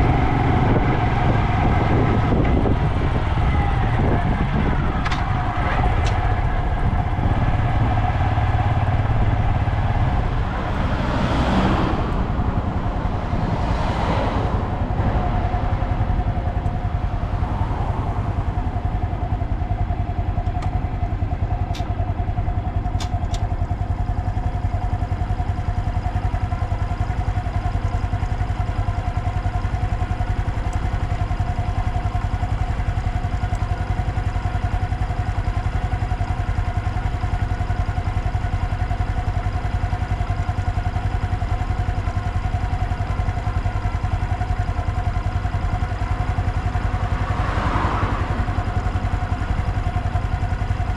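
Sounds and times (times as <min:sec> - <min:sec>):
motorcycle engine idling: 0:00.0 - 0:50.9.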